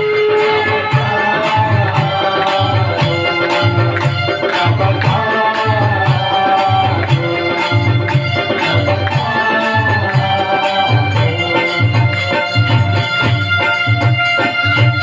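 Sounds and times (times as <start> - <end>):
steady drum beat: 0.0 - 15.0
sustained melody lines: 0.0 - 15.0.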